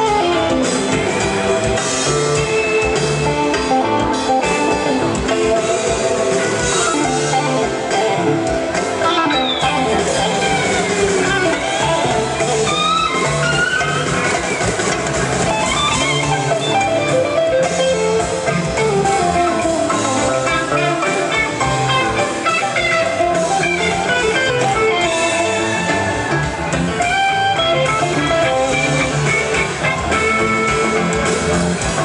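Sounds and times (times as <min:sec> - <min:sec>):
bass guitar: 0:00.0 - 0:32.0
drum kit: 0:00.0 - 0:32.0
electric guitar lead: 0:00.0 - 0:32.0.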